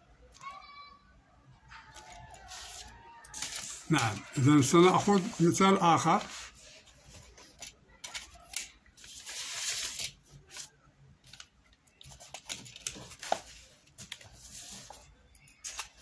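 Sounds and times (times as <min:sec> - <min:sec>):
paper rustling: 0:01.7 - 0:16.0.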